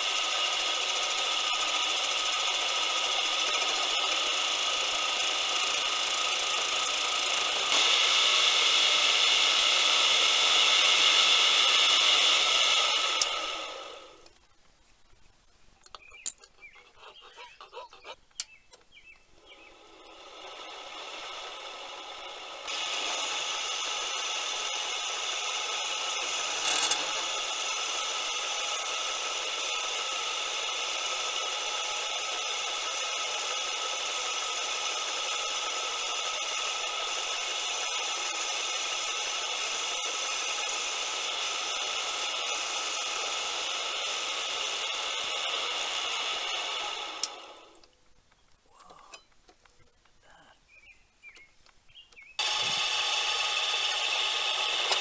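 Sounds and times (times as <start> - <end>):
tool bit cutting aluminum: 0.0 - 14.3, 19.5 - 47.8, 52.4 - 55.0
lathe motor whining: 0.0 - 14.4, 19.4 - 47.8, 52.4 - 55.0.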